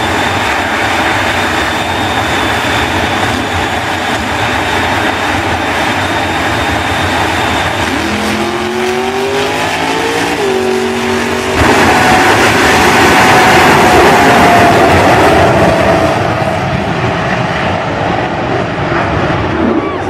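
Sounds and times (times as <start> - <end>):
high whine: 0.0 - 20.0
jet engine roar: 0.0 - 20.0
lower engine note rising: 0.3 - 20.0.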